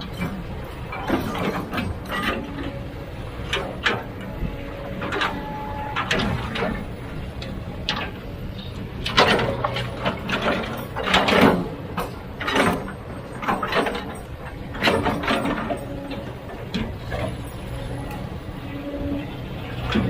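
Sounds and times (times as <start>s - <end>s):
machinery scraping and clanking: 0.0s - 20.0s.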